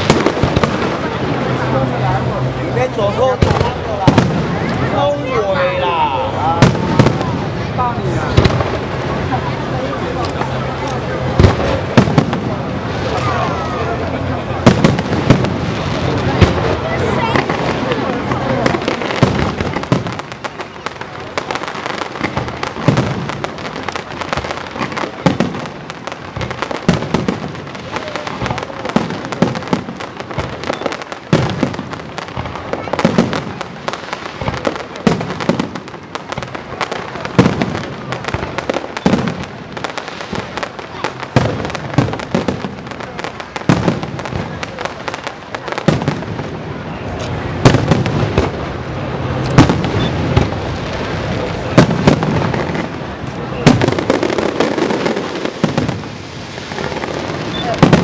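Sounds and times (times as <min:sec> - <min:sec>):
fireworks booming: 0:00.0 - 0:58.0
fireworks crackling and popping: 0:00.0 - 0:58.0.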